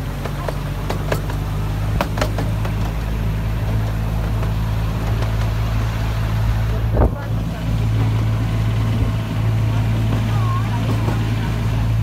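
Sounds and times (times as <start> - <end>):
low engine hum: 0.0 - 12.0
wheels clicking over rail joints: 0.0 - 12.0.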